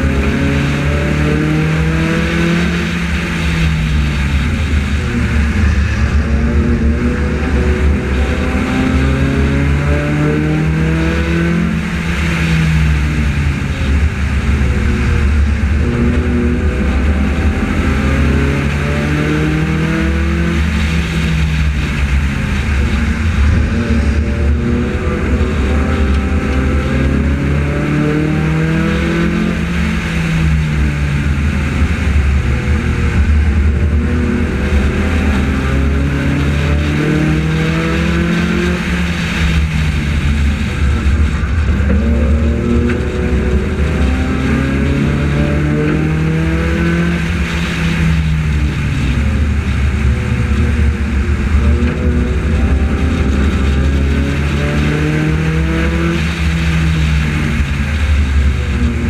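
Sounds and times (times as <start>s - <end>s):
race car engine accelerating: 0.0s - 59.0s
wind and tyre noise: 0.0s - 59.0s.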